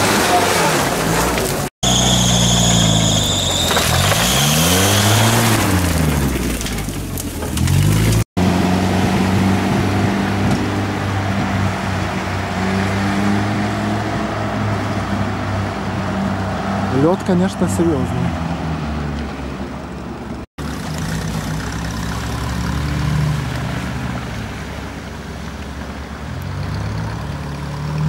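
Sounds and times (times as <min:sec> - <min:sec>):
off-road engine revving: 0:00.0 - 0:19.5, 0:20.4 - 0:28.0.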